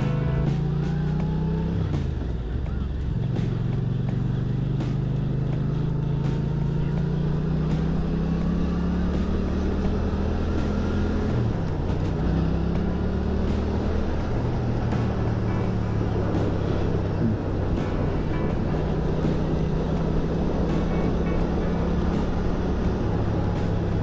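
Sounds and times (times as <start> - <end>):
motorcycle engine accelerating: 0.0 - 24.0
road and wind noise: 0.0 - 24.0.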